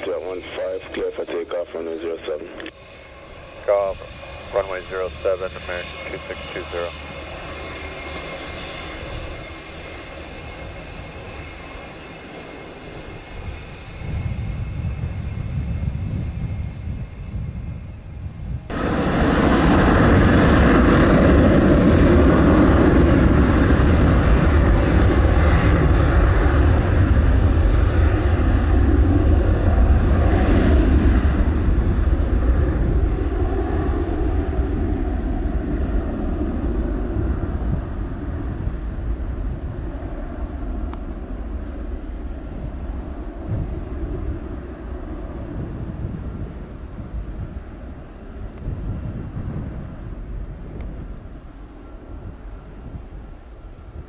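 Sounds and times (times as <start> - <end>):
jet engines at takeoff: 0.0 - 54.0.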